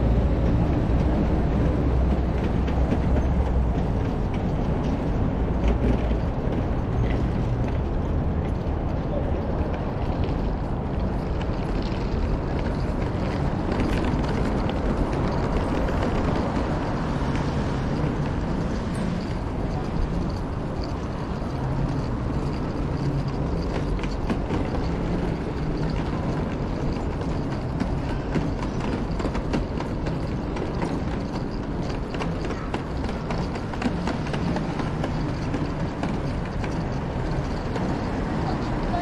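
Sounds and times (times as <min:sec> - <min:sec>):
city and crowd murmur: 0:00.0 - 0:39.0.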